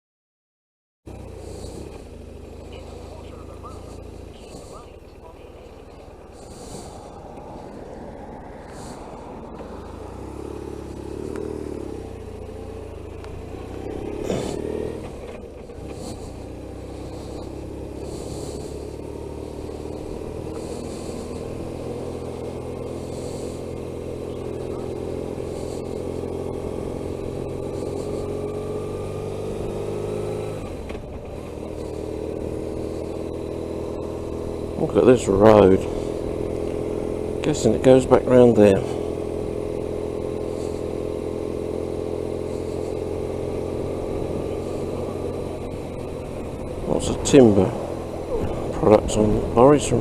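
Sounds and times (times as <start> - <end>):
motorcycle engine accelerating: 1.1 - 50.0
riding noise: 1.1 - 50.0.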